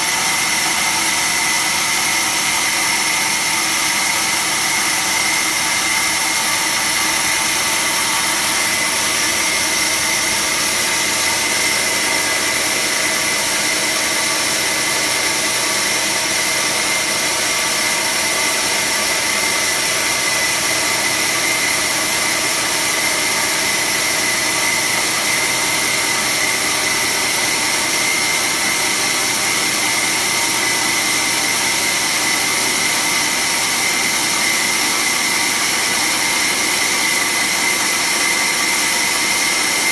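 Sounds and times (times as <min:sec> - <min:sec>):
band saw whining: 0:00.0 - 0:39.9.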